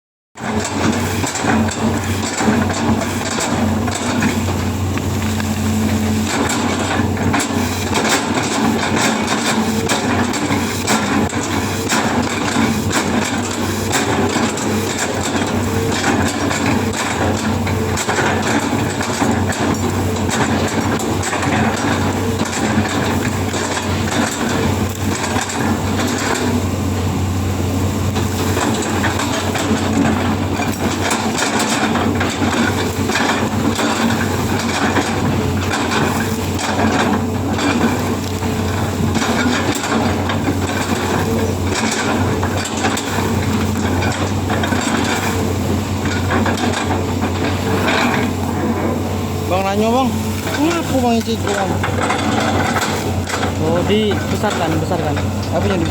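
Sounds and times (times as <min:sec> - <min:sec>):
metal clanks and knocks: 0:00.4 - 0:26.7, 0:28.1 - 0:55.9
excavator diesel engine running: 0:00.4 - 0:55.9
excavator scraping: 0:00.4 - 0:55.9.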